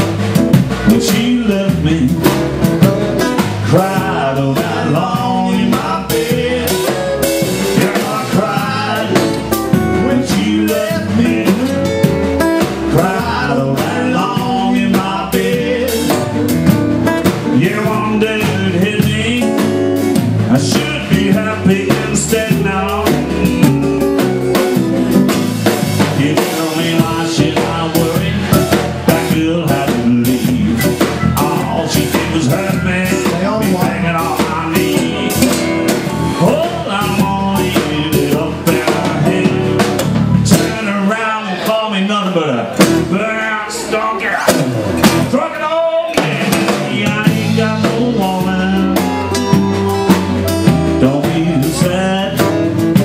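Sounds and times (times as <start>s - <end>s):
drum kit and djembe beat: 0.0s - 41.0s, 42.8s - 43.2s, 44.4s - 45.4s, 46.1s - 53.0s
electric guitar: 0.0s - 45.4s, 46.2s - 53.0s
bass: 0.0s - 53.0s
live blues band: 0.0s - 53.0s.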